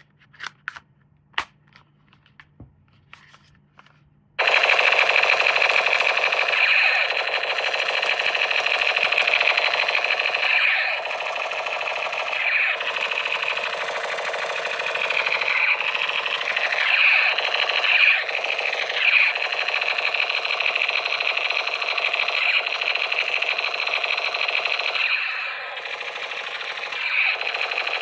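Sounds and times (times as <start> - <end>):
toy buzzing with rattle: 4.4 - 28.0.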